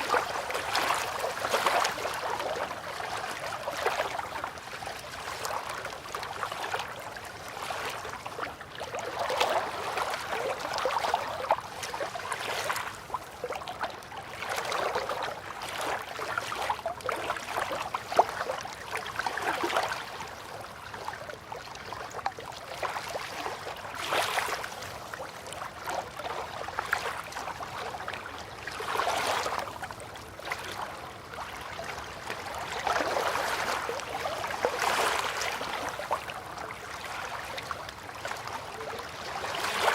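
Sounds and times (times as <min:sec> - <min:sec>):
river water lapping at bank: 0:00.0 - 0:39.9.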